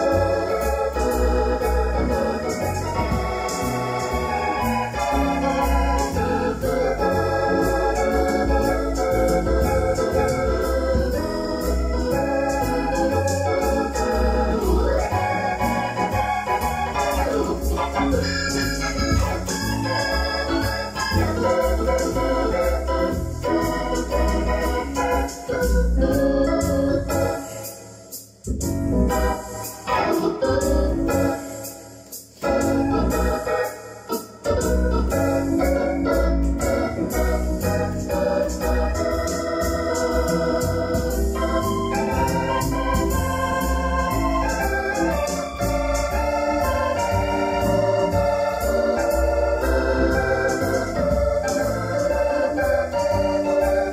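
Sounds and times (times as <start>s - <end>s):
electronic keyboard organ music: 0.0s - 53.9s.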